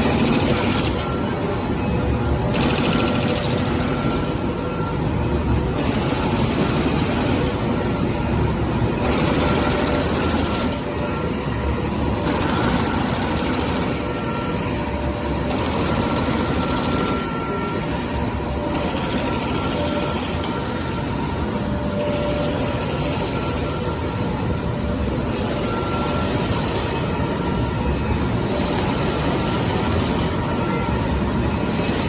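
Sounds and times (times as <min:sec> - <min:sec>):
machine clatter: 0:00.0 - 0:04.8, 0:05.7 - 0:08.3, 0:08.9 - 0:11.2, 0:12.1 - 0:14.5, 0:15.4 - 0:17.7, 0:18.6 - 0:24.5, 0:25.2 - 0:32.0.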